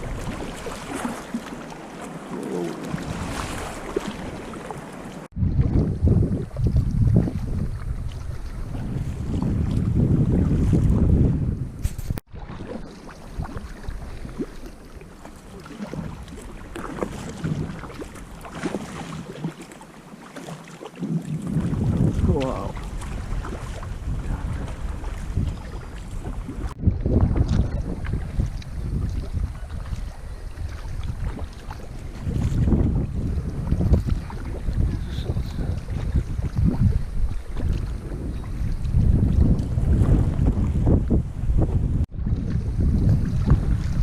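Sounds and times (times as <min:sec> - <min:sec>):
wind buffeting microphone: 0:00.0 - 0:01.4, 0:02.2 - 0:19.3, 0:21.0 - 0:44.0
water splashing and lapping: 0:00.0 - 0:44.0.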